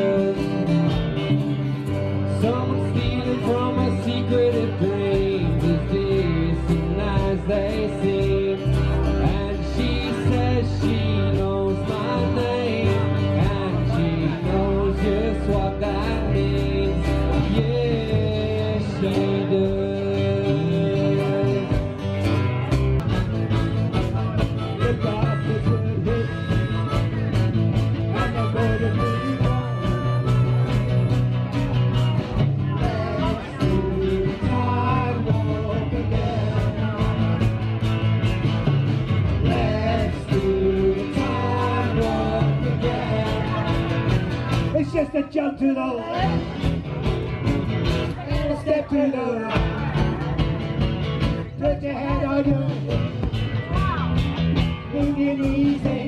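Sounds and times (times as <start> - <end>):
live band electric guitars: 0.0 - 56.0.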